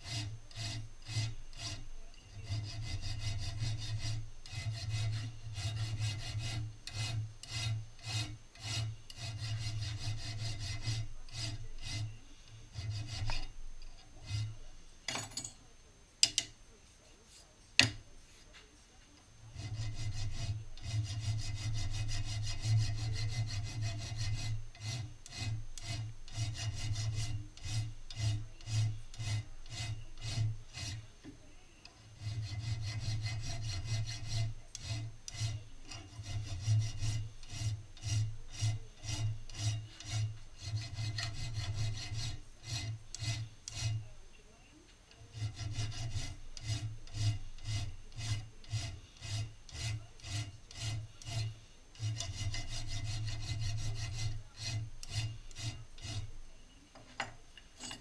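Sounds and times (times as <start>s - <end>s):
file rasping on steel: 0.0s - 14.7s, 19.5s - 44.2s, 45.1s - 58.0s.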